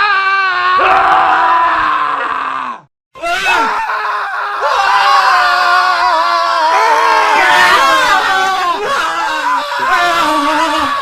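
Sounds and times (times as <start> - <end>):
men screaming: 0.0 - 11.0.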